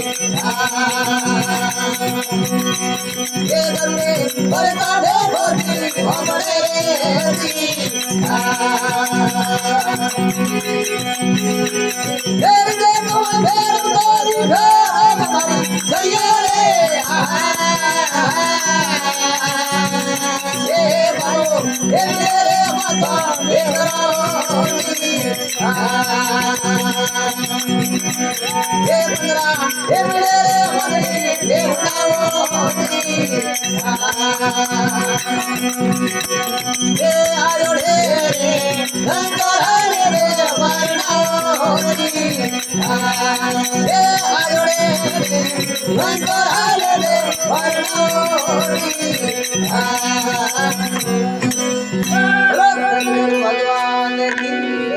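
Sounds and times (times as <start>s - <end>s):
rattle jingling: 0.0s - 52.3s
person singing melody: 0.0s - 54.9s.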